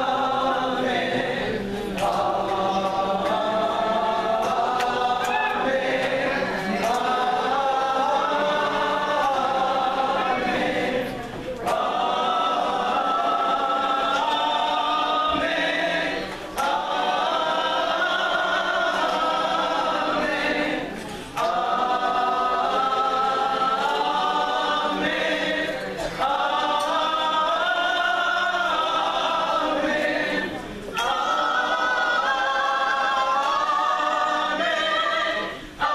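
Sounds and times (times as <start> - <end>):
vocal group singing in harmony: 0.0 - 35.9.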